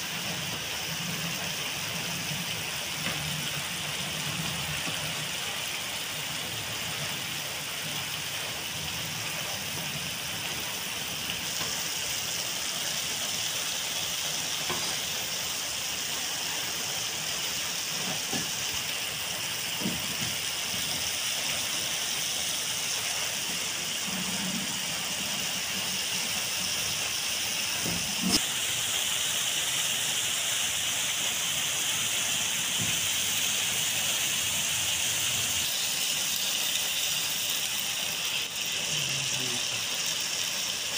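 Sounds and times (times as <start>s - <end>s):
food sizzling in a wok: 0.0s - 40.9s.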